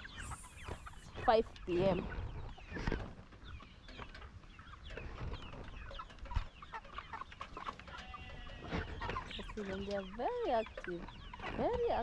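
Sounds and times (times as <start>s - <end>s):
chickens cheeping and clucking: 0.0s - 12.0s.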